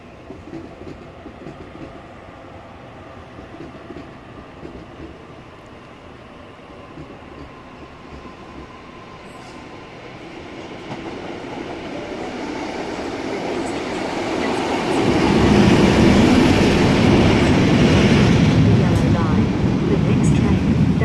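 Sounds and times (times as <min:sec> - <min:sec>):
diesel locomotive engines: 0:00.0 - 0:21.0
train wheels on rails: 0:00.0 - 0:21.0.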